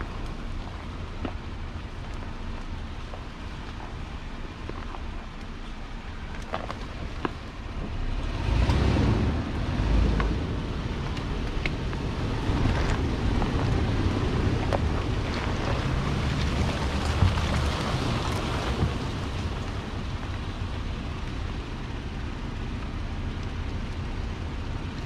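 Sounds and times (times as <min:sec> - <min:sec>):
off-road vehicle rumble: 0:00.0 - 0:25.0.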